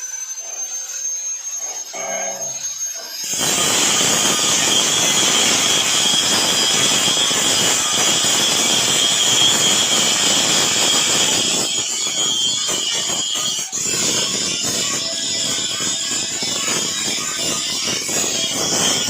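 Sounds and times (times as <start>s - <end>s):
electric power tool whining: 0.0s - 19.0s.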